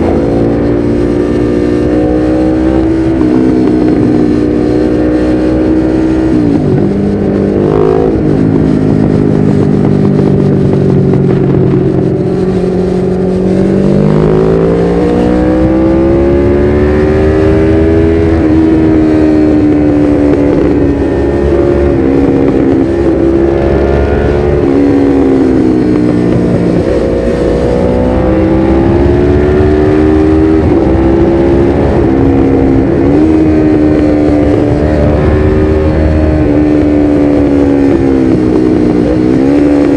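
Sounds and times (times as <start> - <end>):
motorcycle engine accelerating: 0.0 - 39.9
wind and road rumble: 0.0 - 39.9.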